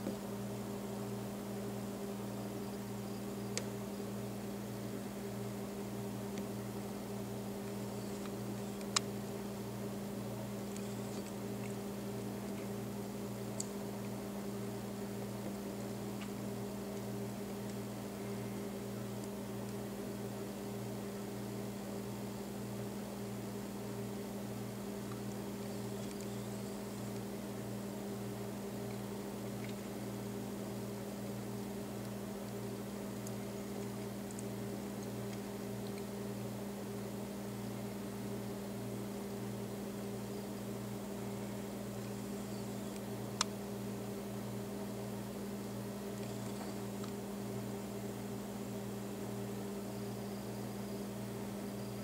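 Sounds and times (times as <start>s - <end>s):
mechanical hum with pulsing drone: 0.0s - 52.0s.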